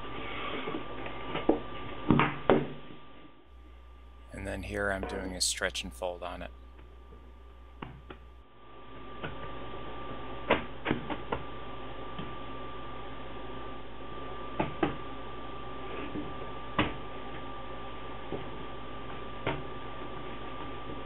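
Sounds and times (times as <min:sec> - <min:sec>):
steady hum with high whine: 0:00.0 - 0:21.0.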